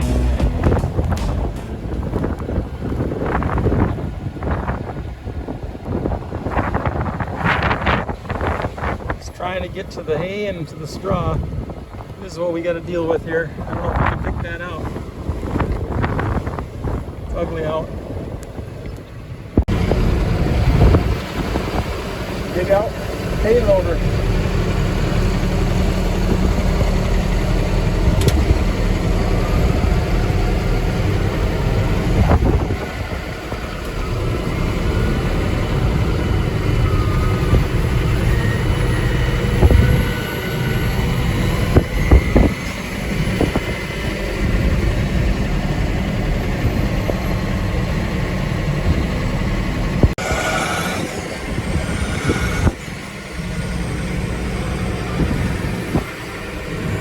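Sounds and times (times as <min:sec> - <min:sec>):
loader engine running: 0:00.0 - 0:17.3, 0:17.9 - 0:57.0.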